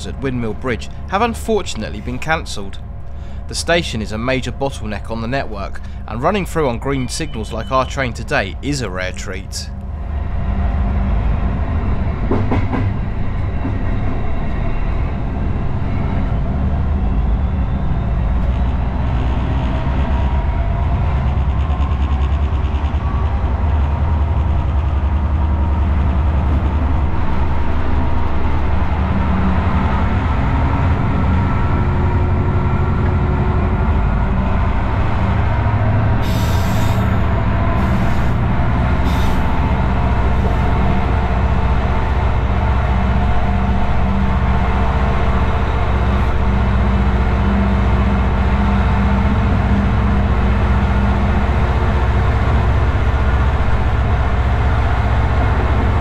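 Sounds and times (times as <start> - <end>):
diesel locomotive engine running: 0.0 - 56.0
wheel and rail noise: 0.0 - 56.0.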